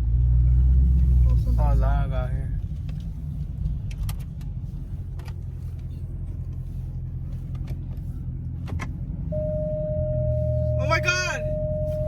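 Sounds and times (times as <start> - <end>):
car running from inside cabin: 0.0 - 12.0.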